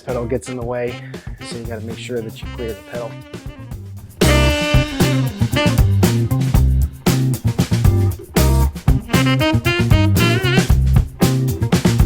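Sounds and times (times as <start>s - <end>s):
music with guitar and bass: 0.0s - 12.0s.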